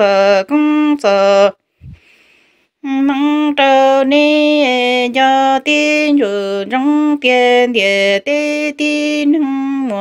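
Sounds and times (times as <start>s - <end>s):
woman singing unaccompanied: 0.0s - 1.7s, 2.8s - 10.0s.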